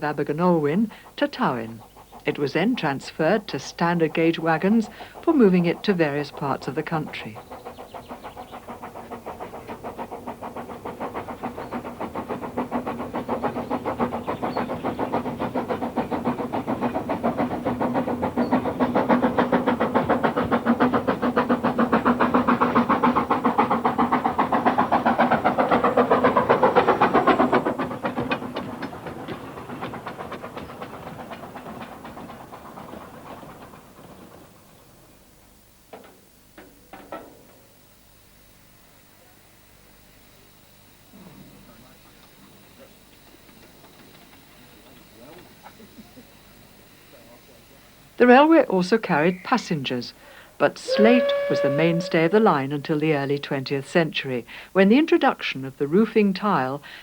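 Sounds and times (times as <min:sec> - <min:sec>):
steam train running past: 0:00.0 - 0:57.0.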